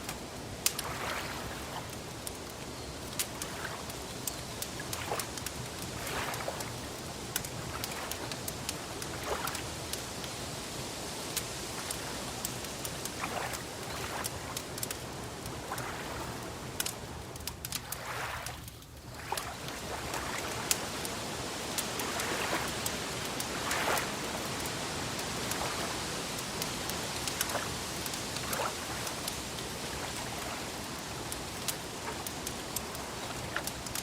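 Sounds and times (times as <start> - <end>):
water sloshing: 0.0 - 2.2, 4.6 - 9.7, 11.7 - 34.0
wood fire crackling: 0.0 - 34.0.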